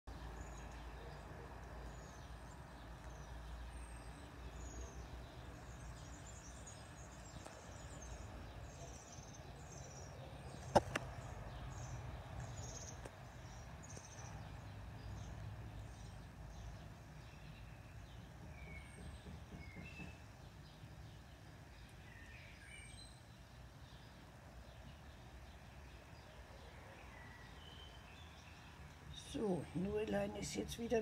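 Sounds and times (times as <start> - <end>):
small birds chirping: 0.1 - 31.0.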